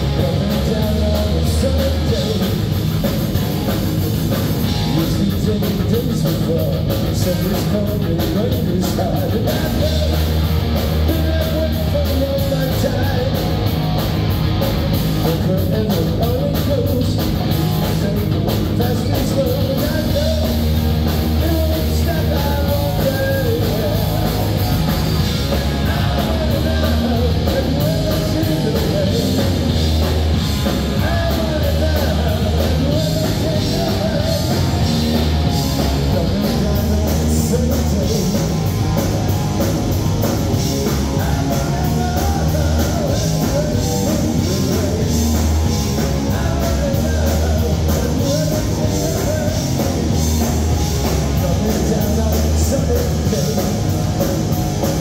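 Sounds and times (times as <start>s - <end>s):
man singing: 0.0s - 3.3s, 4.6s - 13.8s, 15.1s - 39.0s, 40.3s - 55.0s
punk rock band playing: 0.0s - 55.0s.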